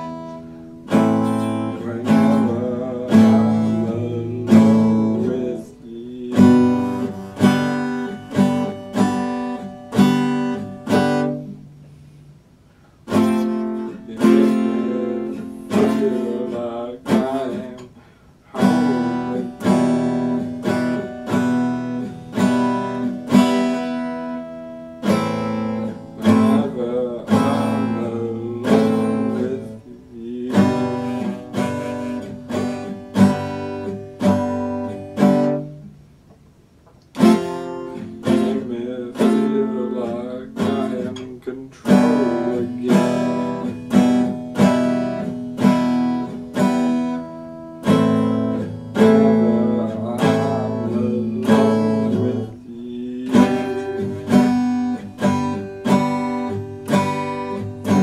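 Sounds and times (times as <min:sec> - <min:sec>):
acoustic guitar chords: 0:00.0 - 0:58.0.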